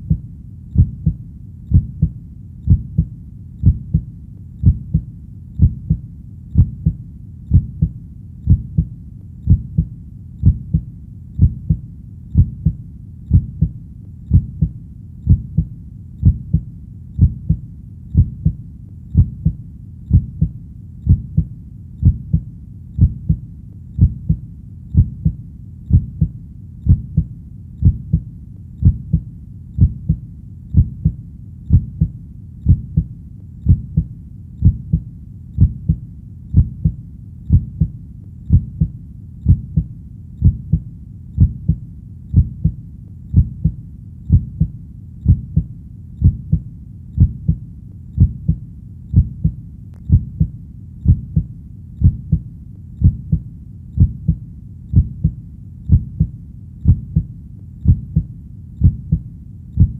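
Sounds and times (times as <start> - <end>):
heartbeat thumps: 0.0 - 47.6, 48.2 - 59.9.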